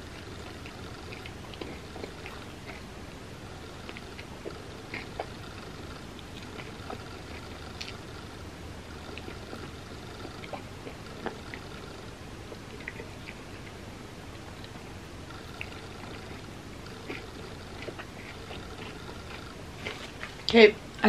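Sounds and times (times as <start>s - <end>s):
person chewing: 0.0s - 20.5s.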